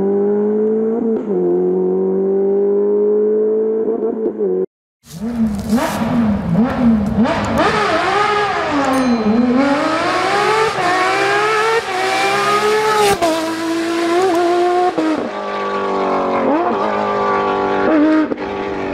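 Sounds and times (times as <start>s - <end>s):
rally car engines revving: 0.0s - 18.9s.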